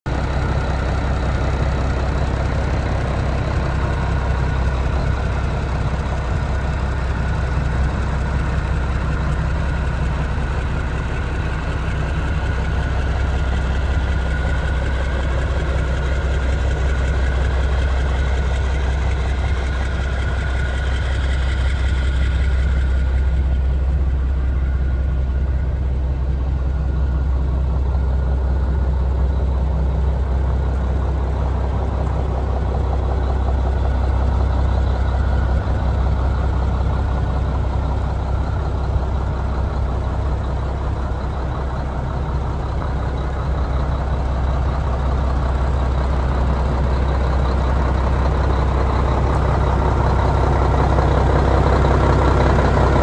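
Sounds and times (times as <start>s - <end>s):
diesel truck engine idling: 0.1s - 53.0s.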